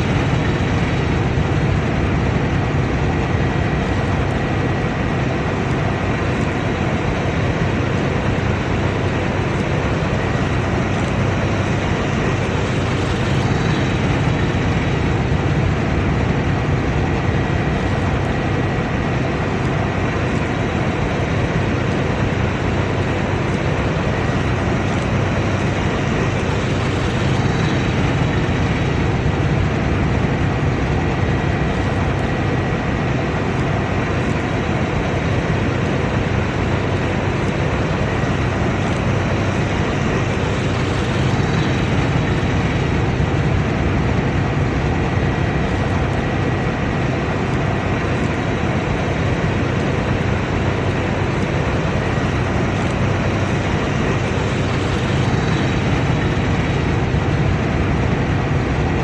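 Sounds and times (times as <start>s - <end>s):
combine harvester engine drone: 0.0s - 59.0s
high-pitched machinery whine: 0.0s - 59.0s.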